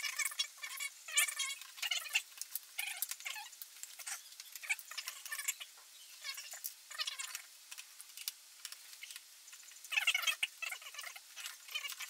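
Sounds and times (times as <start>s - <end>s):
metal and plastic parts squeaking: 0.0s - 12.0s.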